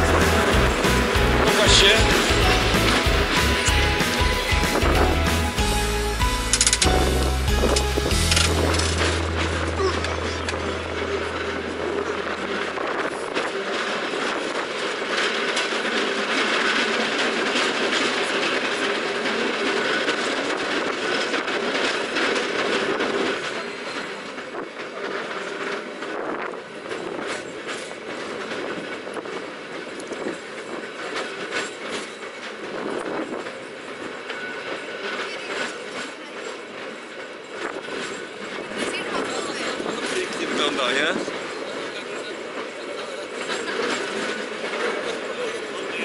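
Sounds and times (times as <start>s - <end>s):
cable car wheels rattling on rails: 0.0s - 46.0s.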